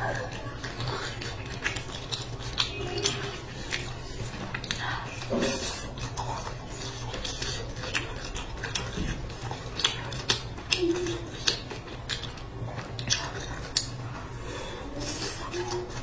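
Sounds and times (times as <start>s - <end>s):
crunchy pastry chewing: 0.0s - 16.0s
steady low hum: 0.0s - 16.0s.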